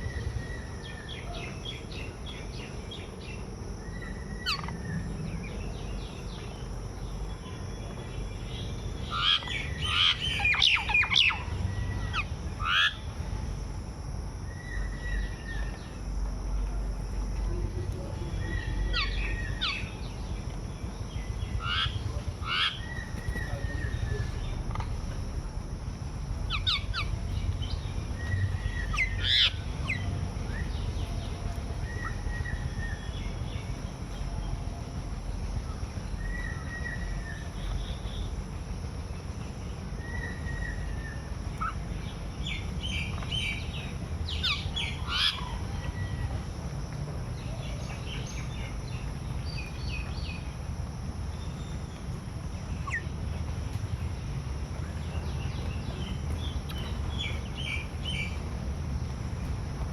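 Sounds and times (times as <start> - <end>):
birds chirping: 0.0 - 59.9
steady low rumble: 0.0 - 59.9.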